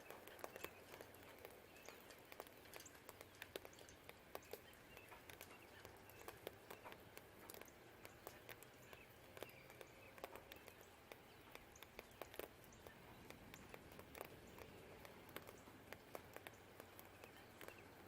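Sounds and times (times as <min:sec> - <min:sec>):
distant traffic hum: 0:00.0 - 0:18.0
faint bird chirps: 0:00.0 - 0:18.0
rain dripping: 0:00.0 - 0:18.0.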